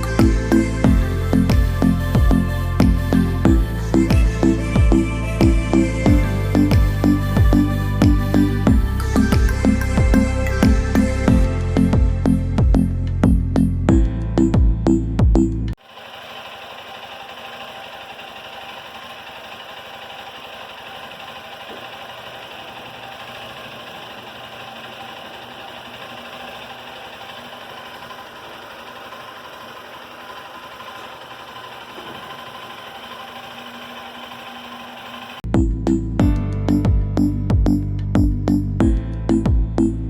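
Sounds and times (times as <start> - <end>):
small motorcycle engine idling: 0.0 - 14.0, 15.8 - 37.0.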